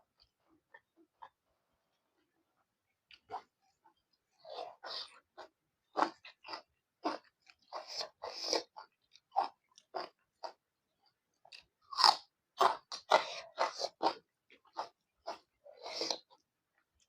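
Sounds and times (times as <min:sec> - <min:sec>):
close chewing with crunchy bites: 0:00.1 - 0:17.0.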